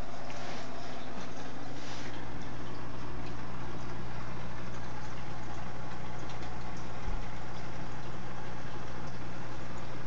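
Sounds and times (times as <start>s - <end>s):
air pump humming: 0.0s - 10.0s
faint bubbling: 0.0s - 10.0s.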